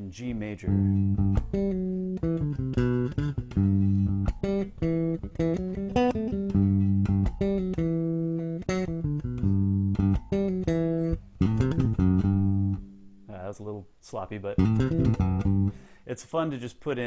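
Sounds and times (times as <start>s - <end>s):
electric bass arpeggios: 0.6s - 13.2s, 14.6s - 15.8s.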